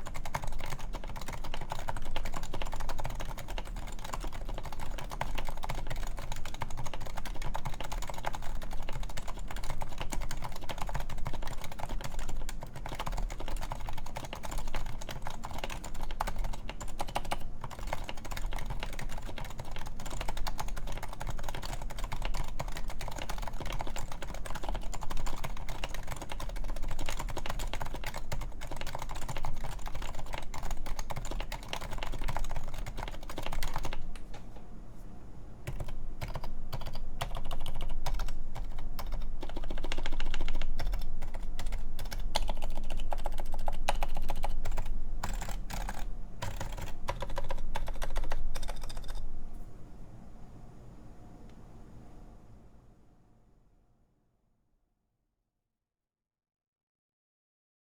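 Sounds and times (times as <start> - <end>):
rapid keyboard typing: 0.0 - 34.3, 35.6 - 49.3.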